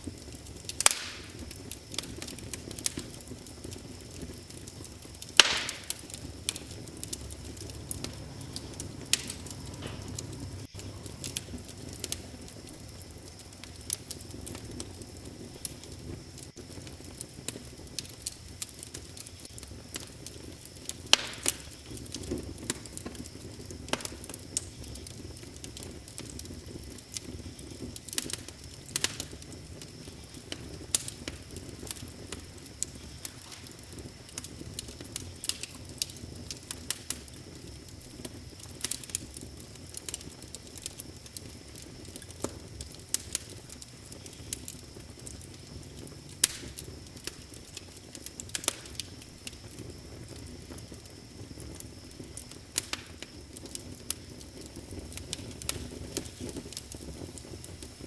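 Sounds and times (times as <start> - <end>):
low hiss of burning: 0.0 - 58.0
wood fire crackling and popping: 0.0 - 58.0.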